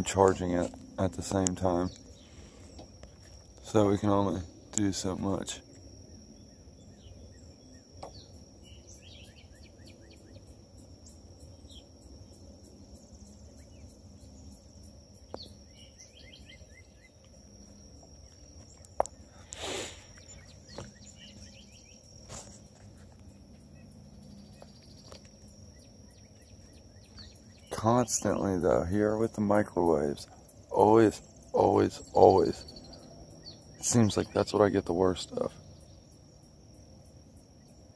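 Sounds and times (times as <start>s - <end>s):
high insect drone: 0.0s - 37.9s.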